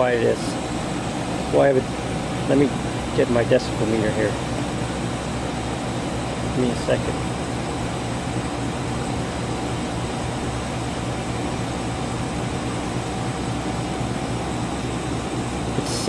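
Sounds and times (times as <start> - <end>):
heat pump whirring: 0.0 - 16.0.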